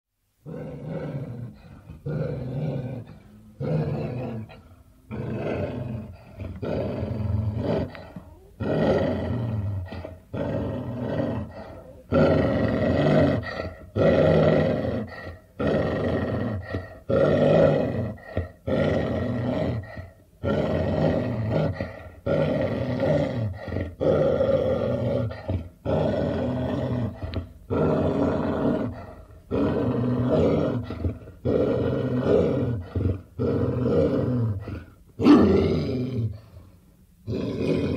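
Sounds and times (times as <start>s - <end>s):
dog growling: 0.4s - 36.6s, 37.2s - 37.9s.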